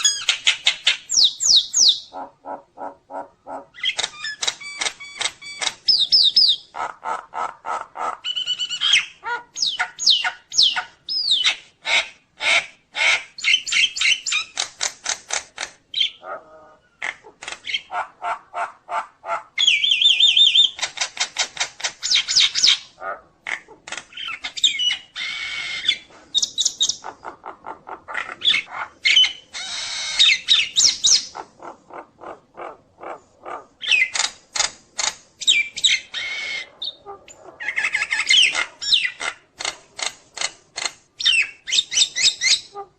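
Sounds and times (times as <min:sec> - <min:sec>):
myna bird singing: 0:00.0 - 0:14.8, 0:15.9 - 0:18.7, 0:19.5 - 0:34.5, 0:35.4 - 0:39.4, 0:41.2 - 0:42.8.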